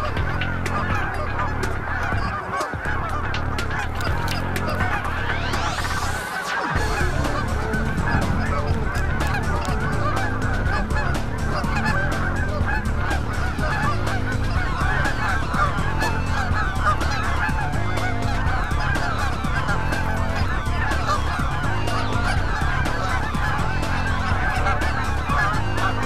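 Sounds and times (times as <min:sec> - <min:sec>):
flock of geese honking: 0:00.0 - 0:26.0.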